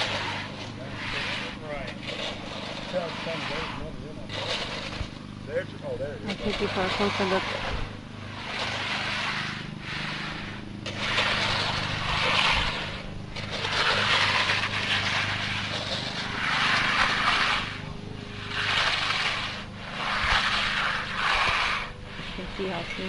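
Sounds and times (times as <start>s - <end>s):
low engine hum: 0.0s - 23.0s
screed scraping wet concrete: 0.0s - 23.0s.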